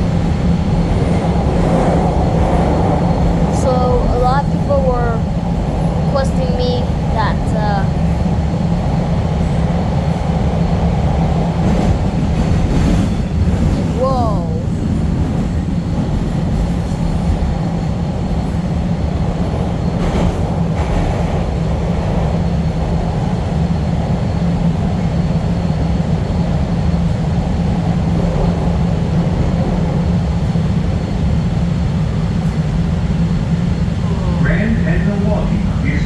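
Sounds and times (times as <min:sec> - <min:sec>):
subway train rumbling in tunnel: 0:00.0 - 0:36.0.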